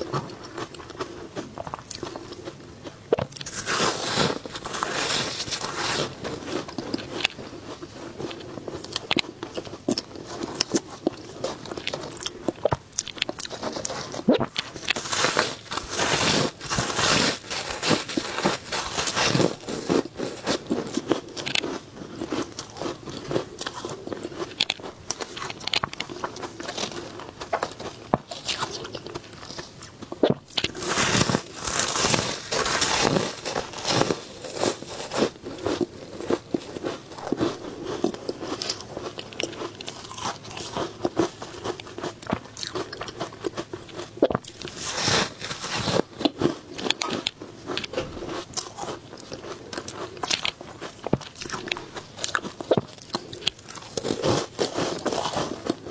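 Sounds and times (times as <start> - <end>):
chewing ice crunching: 0.0 - 55.9.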